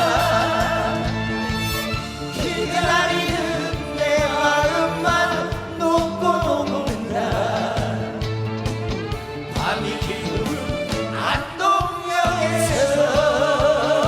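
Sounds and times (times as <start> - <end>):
person singing with vibrato: 0.0 - 1.6, 2.2 - 8.2, 9.5 - 14.0
steady drumbeat: 0.0 - 14.0
trot song with band: 0.0 - 14.0.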